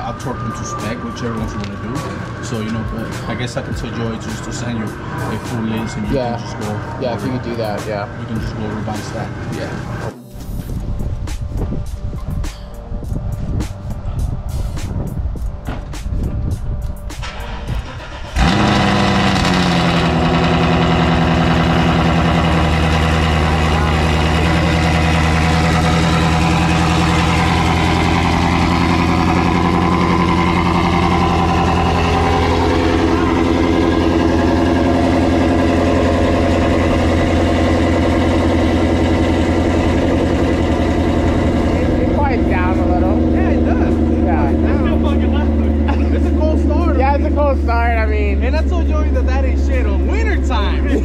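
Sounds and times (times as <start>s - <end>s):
car engine starting and idling: 0.0s - 51.0s.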